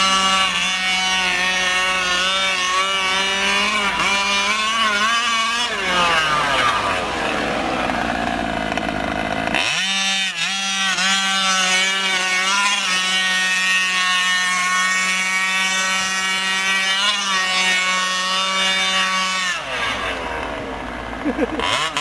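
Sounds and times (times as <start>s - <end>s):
rc truck engine buzzing: 0.0s - 22.0s.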